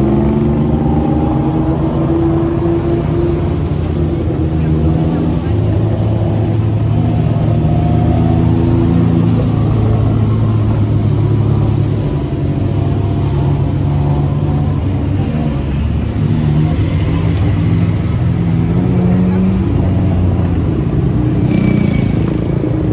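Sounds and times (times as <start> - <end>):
road and wind noise: 0.0 - 22.9
tuk-tuk engine running: 0.0 - 22.9.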